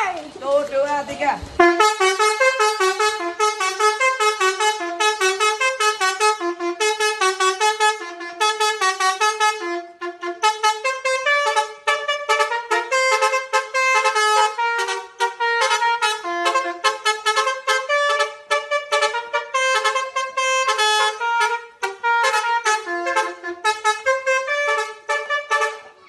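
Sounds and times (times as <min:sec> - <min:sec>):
bus horn playing fast tune: 0:01.6 - 0:26.0.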